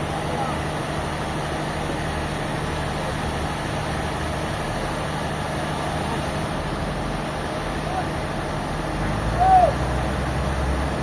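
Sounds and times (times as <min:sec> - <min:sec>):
sawmill machinery drone: 0:00.0 - 0:11.0.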